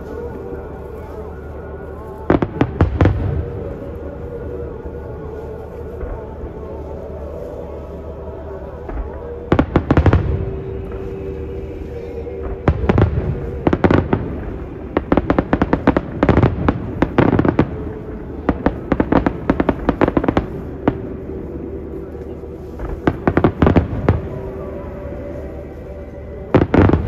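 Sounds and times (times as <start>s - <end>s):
firework crackles: 0.0s - 27.0s.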